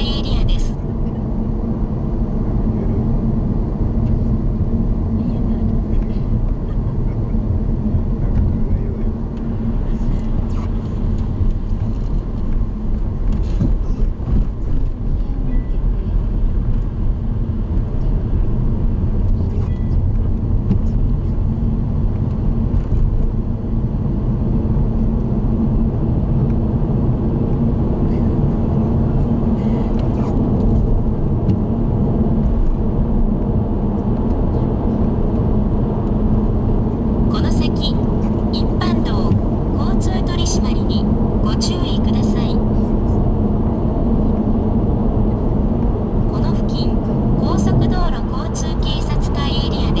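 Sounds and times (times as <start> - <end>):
car tyre and engine drone: 0.0 - 50.0.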